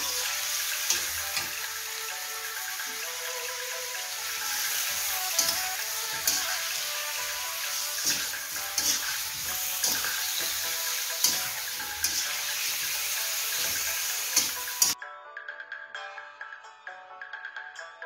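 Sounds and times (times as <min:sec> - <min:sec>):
chicken sizzling in hot oil: 0:00.0 - 0:15.0
metal spatula scraping pan: 0:00.0 - 0:15.0.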